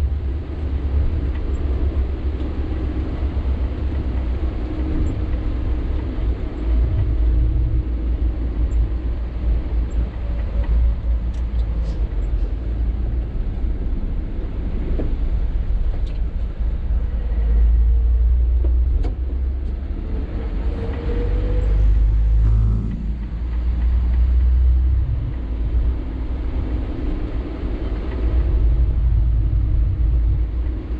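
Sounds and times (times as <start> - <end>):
truck engine and road rumble: 0.0 - 30.9.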